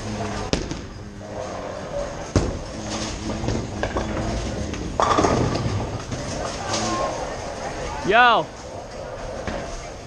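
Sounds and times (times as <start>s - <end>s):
bowling balls rolling rumble: 0.0s - 10.0s.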